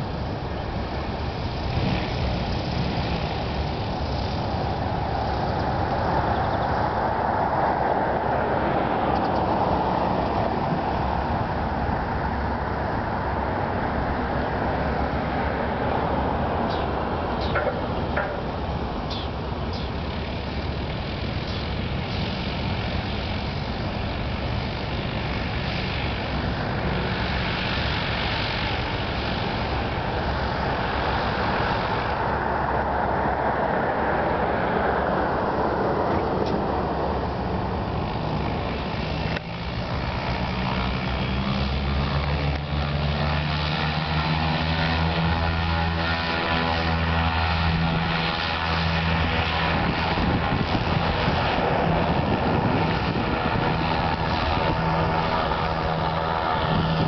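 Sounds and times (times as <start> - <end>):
blimp propeller engines: 0.0 - 57.0
low engine hum: 0.0 - 57.0.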